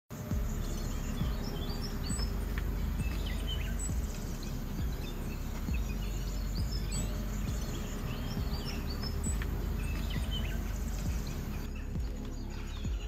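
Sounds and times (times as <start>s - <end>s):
small birds chirping: 0.1s - 13.0s
low rumble: 0.2s - 13.0s.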